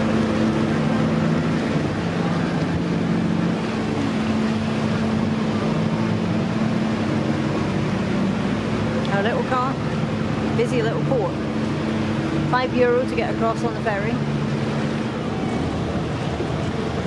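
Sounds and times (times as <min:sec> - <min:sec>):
diesel engines humming: 0:00.0 - 0:17.0
wind and water rushing: 0:00.0 - 0:17.0.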